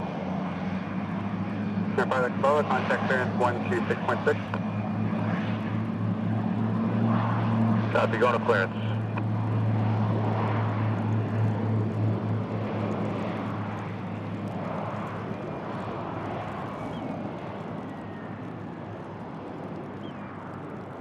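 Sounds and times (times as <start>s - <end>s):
aircraft engine noise: 0.0s - 21.0s.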